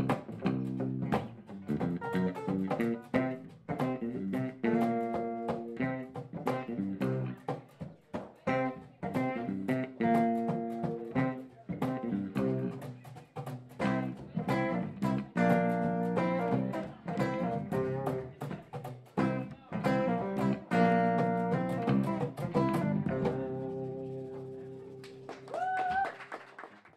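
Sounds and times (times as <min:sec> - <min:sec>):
acoustic guitar instrumental: 0:00.0 - 0:25.3.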